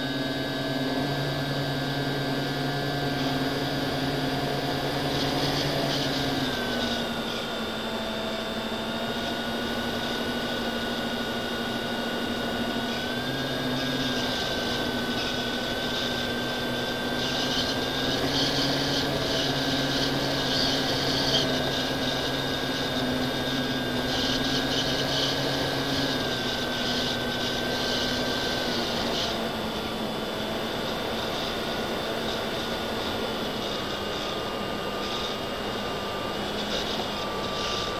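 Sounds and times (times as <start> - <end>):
model aircraft motor whine: 0.0 - 37.9.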